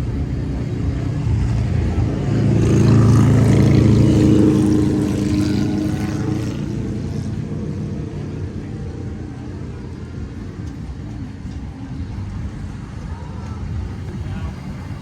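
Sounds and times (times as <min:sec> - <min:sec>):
faint background voices: 0:00.0 - 0:15.0
vehicle engine droning: 0:00.0 - 0:15.0.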